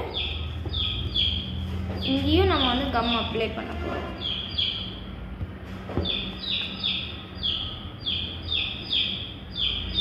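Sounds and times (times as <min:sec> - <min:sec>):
bird chirping in pairs: 0:00.0 - 0:05.2, 0:05.9 - 0:10.0.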